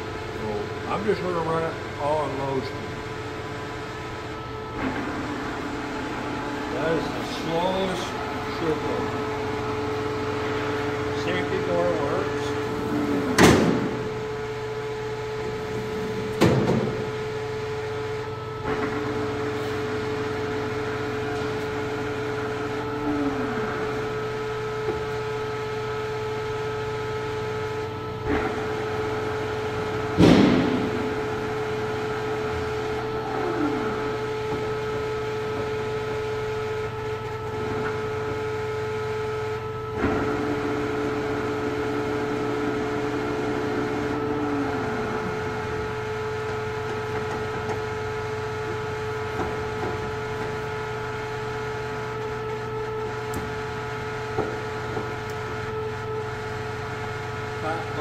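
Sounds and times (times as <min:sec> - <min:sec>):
lathe motor and gearbox whine: 0:00.0 - 0:58.0.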